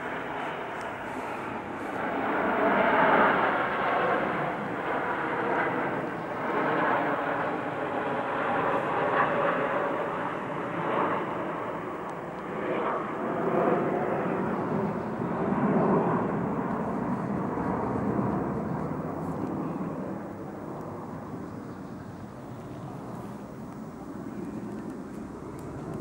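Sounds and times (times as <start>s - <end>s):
jets flying overhead: 0.0s - 26.0s.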